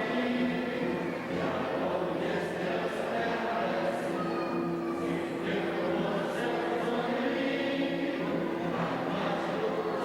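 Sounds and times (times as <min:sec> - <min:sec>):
many voices together: 0:00.0 - 0:10.0.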